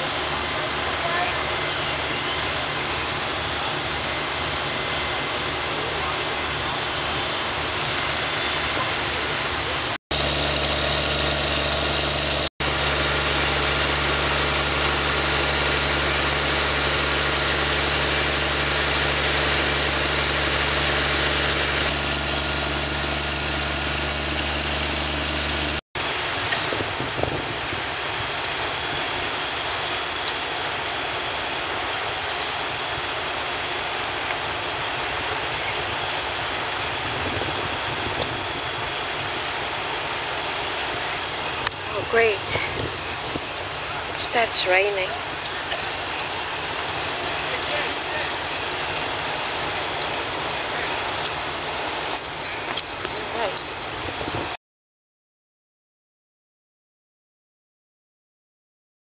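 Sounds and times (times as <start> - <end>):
fire truck engine humming: 0.0 - 54.6.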